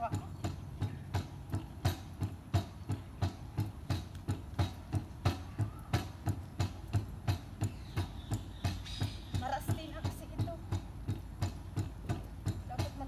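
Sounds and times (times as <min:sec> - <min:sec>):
cross-trainer knocking: 0:00.0 - 0:13.0.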